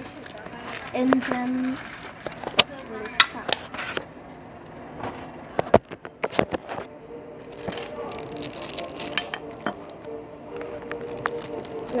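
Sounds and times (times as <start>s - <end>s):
plastic packaging crinkling: 0.0s - 4.1s, 5.7s - 12.0s.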